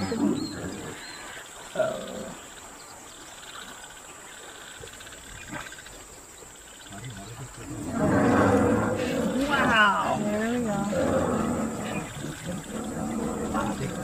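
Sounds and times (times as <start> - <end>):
faint insect chirring: 0.0 - 14.0.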